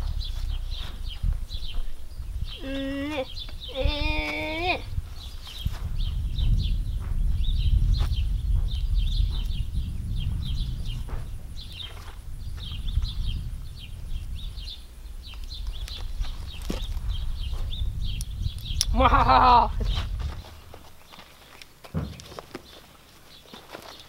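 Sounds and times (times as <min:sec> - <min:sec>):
steady low rumble: 0:00.0 - 0:22.4
small birds chirping: 0:00.0 - 0:24.0.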